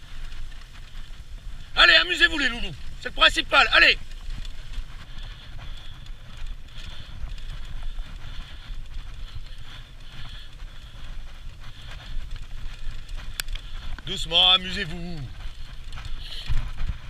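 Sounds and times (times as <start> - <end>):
cart wheels rumbling on dirt: 0.0 - 17.0
rattling and clicking of rig: 2.3 - 17.0.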